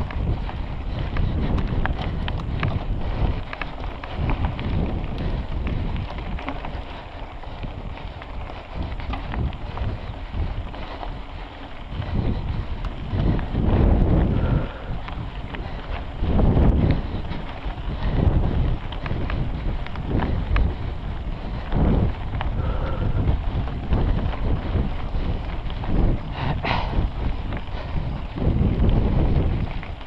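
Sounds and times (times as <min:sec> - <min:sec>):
bike rattling over rough ground: 0:00.0 - 0:30.0
wind rushing over microphone: 0:00.0 - 0:30.0.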